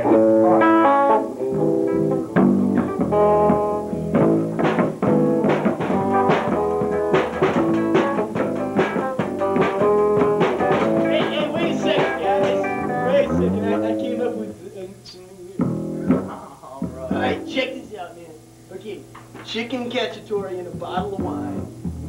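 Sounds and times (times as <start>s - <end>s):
busy drum beat: 0.0s - 14.6s, 15.5s - 18.1s, 18.9s - 22.0s
electric guitar: 0.0s - 14.6s, 15.6s - 17.6s, 21.0s - 22.0s.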